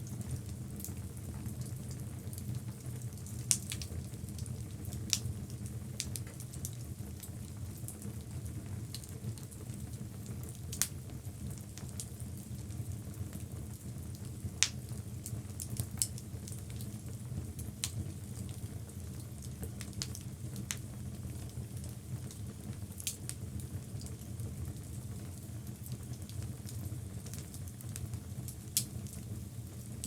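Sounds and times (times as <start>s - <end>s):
low rumble of flames: 0.0s - 30.0s
wood fire crackling and popping: 0.0s - 30.0s.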